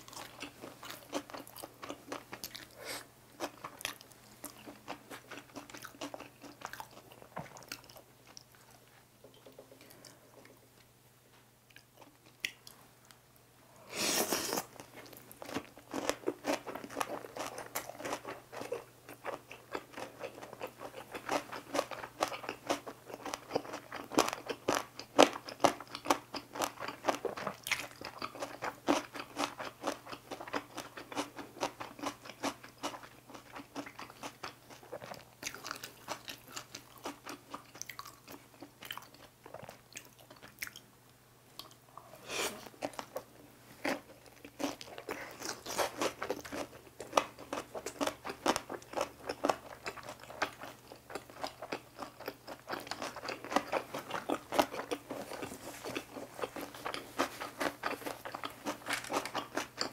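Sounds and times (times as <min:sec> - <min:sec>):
person chewing crunchy food: 0:00.0 - 0:10.6, 0:13.9 - 0:40.9, 0:41.6 - 0:59.9.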